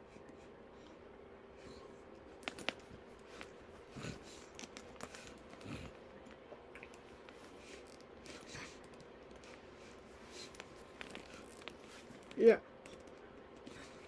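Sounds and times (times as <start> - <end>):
soft rustles of packaging: 1.9 - 14.0.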